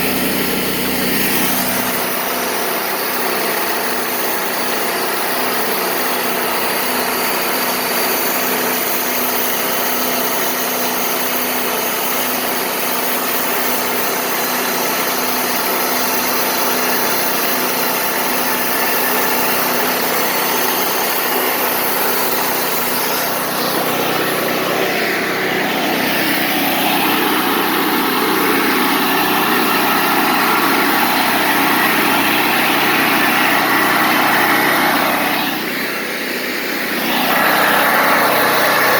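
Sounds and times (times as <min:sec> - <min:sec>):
band sawmill running: 0:00.0 - 0:38.9.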